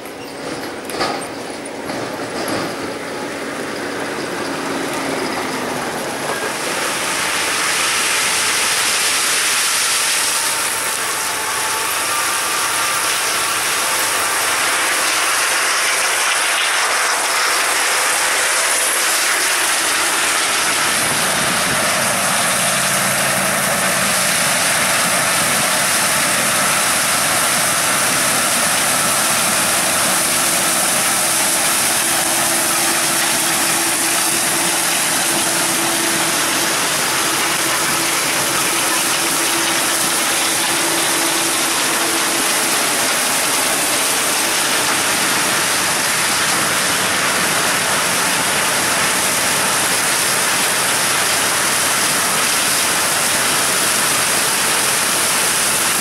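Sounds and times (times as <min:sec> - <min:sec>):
combine harvester clatter: 0:00.0 - 0:56.0.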